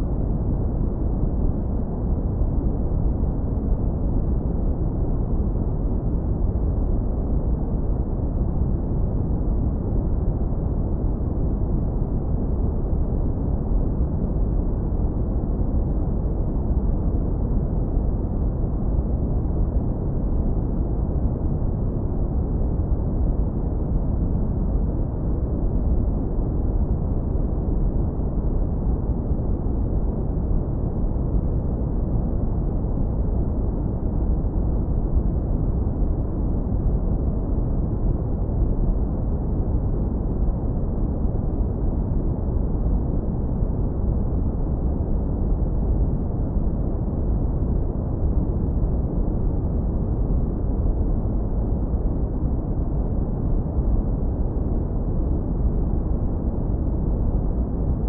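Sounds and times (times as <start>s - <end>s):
deep brown noise rumble: 0.0s - 58.0s.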